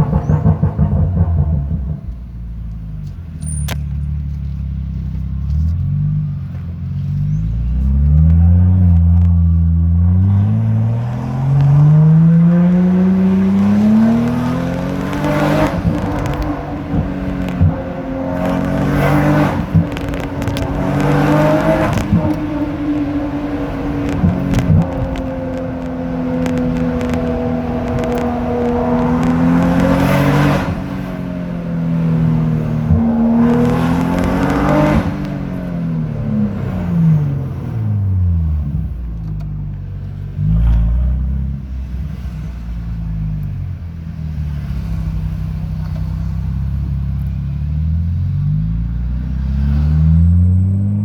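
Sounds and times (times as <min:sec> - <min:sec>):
car engine accelerating hard: 0:00.0 - 0:02.8, 0:03.4 - 0:51.0
exhaust crackles: 0:00.0 - 0:51.0.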